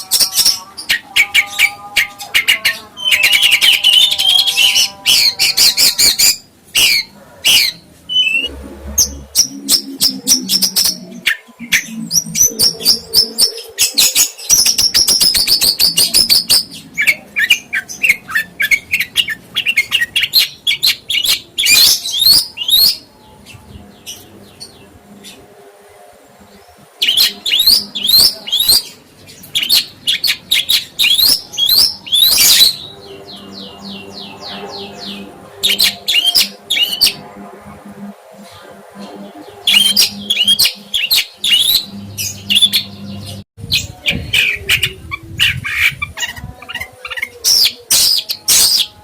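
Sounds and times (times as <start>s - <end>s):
songbird chirping and trilling: 0.0s - 49.0s.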